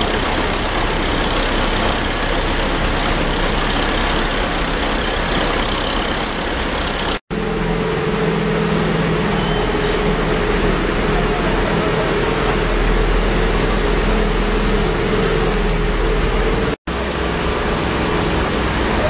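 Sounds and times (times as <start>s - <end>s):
heavy diesel engines running: 0.0s - 19.0s
water rushing: 0.0s - 19.0s.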